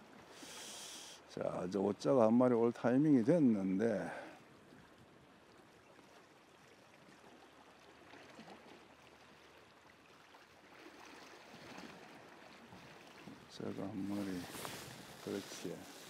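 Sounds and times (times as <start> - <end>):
faint sea water wash: 0.0 - 16.0.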